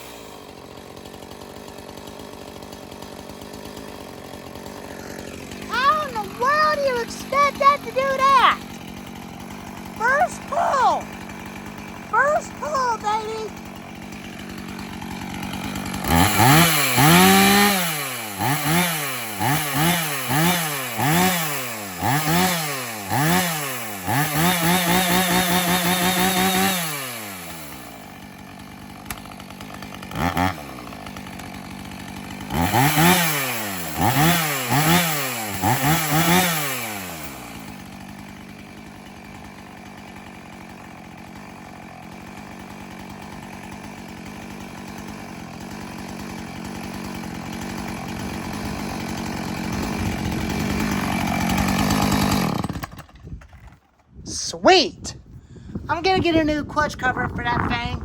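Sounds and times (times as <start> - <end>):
chainsaw revving and idling: 0.0 - 54.8, 55.8 - 58.0.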